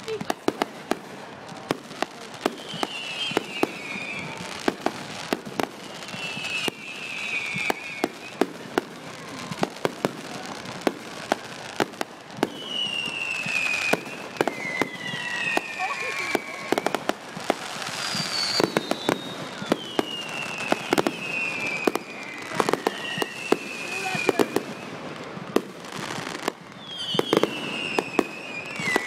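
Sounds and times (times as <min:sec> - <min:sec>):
fireworks popping and banging: 0:00.0 - 0:29.0
whistling fireworks: 0:00.0 - 0:29.0.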